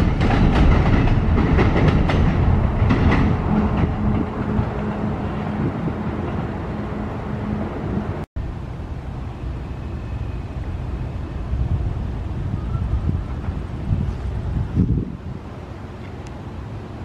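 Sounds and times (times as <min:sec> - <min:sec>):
wind buffeting microphone: 0:00.0 - 0:09.0, 0:10.6 - 0:15.7
train rumble with steady hum: 0:00.0 - 0:17.0.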